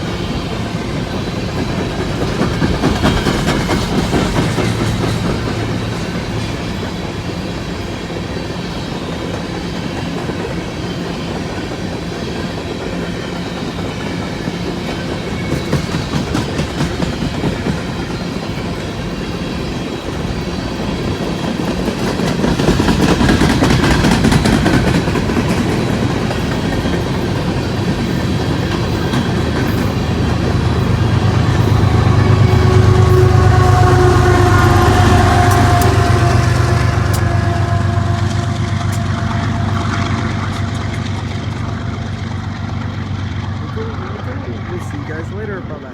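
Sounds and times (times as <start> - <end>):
freight train cars rolling past: 0.0 - 45.9
wheels clicking over rail joints: 0.0 - 45.9.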